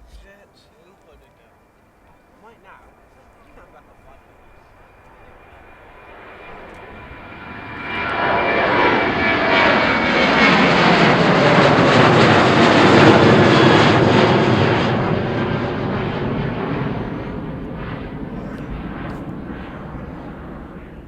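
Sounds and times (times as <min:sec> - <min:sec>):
aircraft engines passing: 0:00.0 - 0:21.0.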